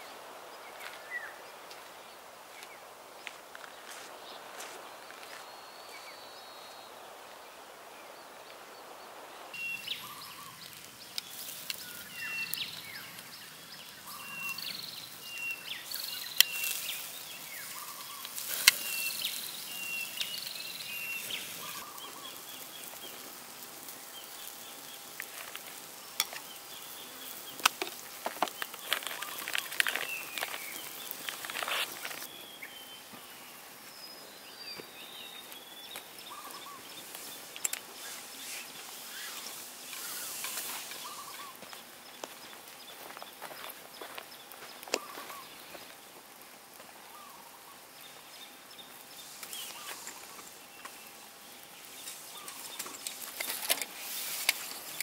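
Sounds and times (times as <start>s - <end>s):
birds chirping: 0.0s - 55.0s
fire crackles and pops: 9.5s - 34.0s, 34.7s - 55.0s
chicken sizzling on grill: 9.6s - 55.0s.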